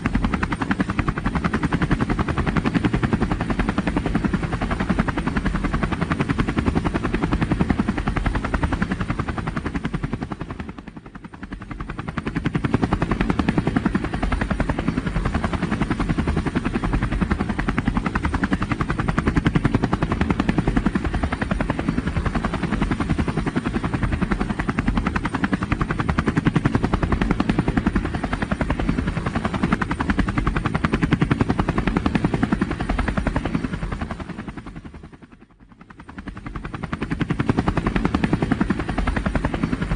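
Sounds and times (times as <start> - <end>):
helicopter engine running: 0.0 - 39.9
helicopter rotor chop: 0.0 - 39.9.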